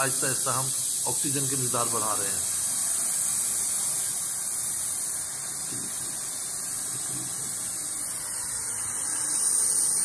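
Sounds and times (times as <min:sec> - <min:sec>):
welding torch flame hissing: 0:00.0 - 0:10.0.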